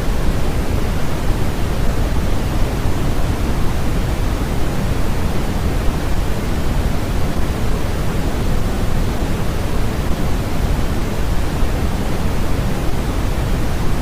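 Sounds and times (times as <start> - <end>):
steady generated noise hiss: 0.0 - 14.0.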